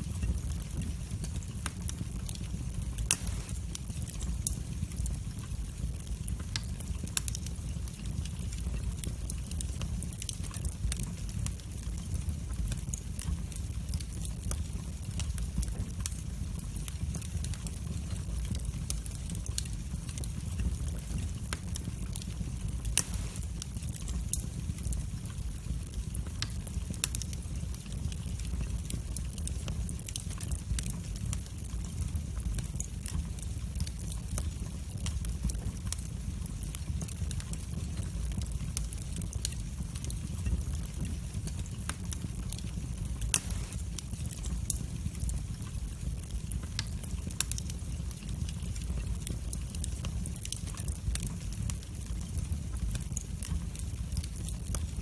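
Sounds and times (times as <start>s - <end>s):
fire crackling and popping: 0.0s - 55.0s
fire flames rumbling: 0.0s - 55.0s.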